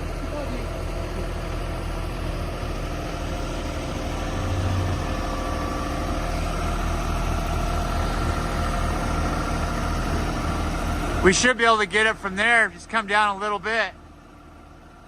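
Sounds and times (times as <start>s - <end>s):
heavy equipment engine running: 0.0s - 15.0s.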